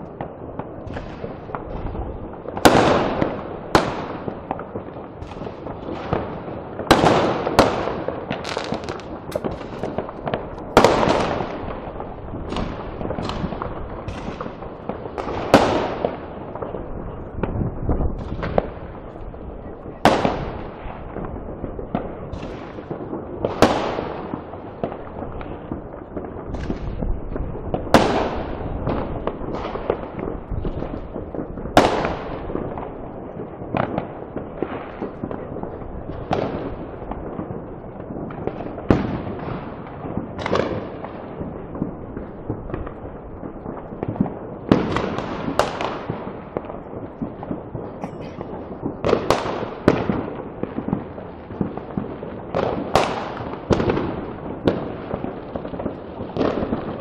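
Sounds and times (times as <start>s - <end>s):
distant firecrackers crackling: 0.0s - 57.0s
firework bangs echoing: 0.0s - 57.0s.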